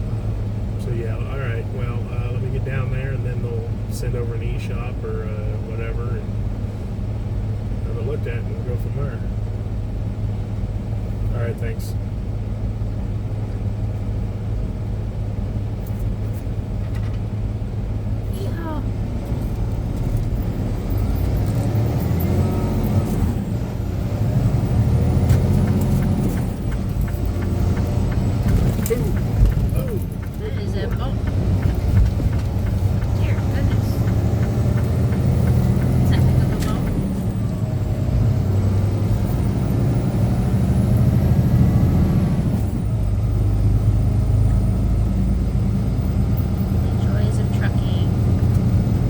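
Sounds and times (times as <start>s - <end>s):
truck engine and road noise: 0.0s - 49.0s.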